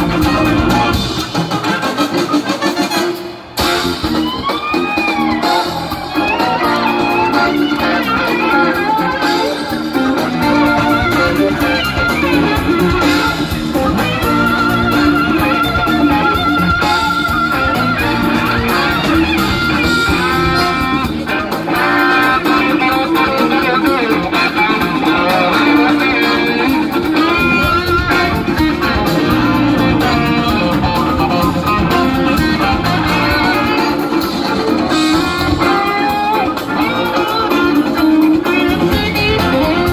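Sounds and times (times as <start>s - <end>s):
electric guitar lead lines: 0.0s - 39.9s
live rock band playing: 0.0s - 39.9s.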